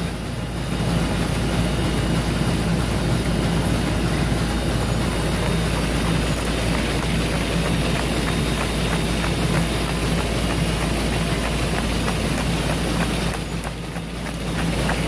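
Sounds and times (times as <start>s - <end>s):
machine hum and belt noise: 0.0s - 15.0s.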